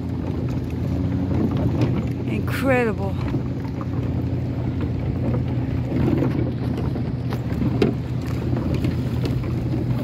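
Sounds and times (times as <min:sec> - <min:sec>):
boat engine drone: 0:00.0 - 0:10.0
wind buffeting microphone: 0:00.0 - 0:10.0.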